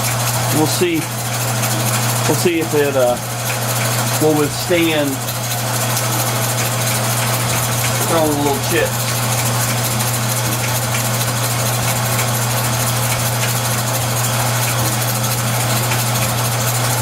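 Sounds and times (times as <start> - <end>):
metal lathe motor hum and whir: 0.0 - 17.0.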